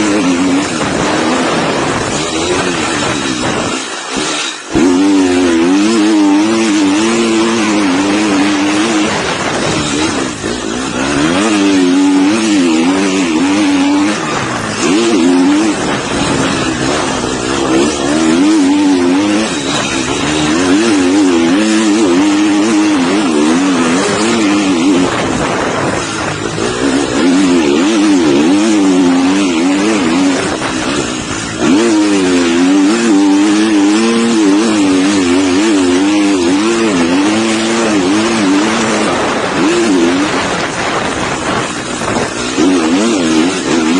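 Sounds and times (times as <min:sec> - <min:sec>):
dirt bike engine revving: 0:00.0 - 0:43.9
wind noise: 0:00.0 - 0:43.9.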